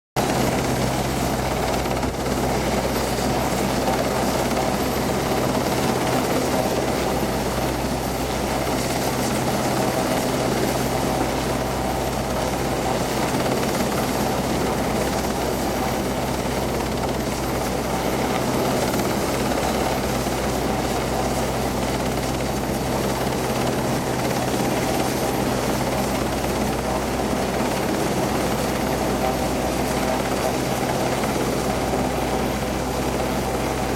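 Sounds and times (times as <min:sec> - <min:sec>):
helicopter rotor drone: 0:00.2 - 0:33.9.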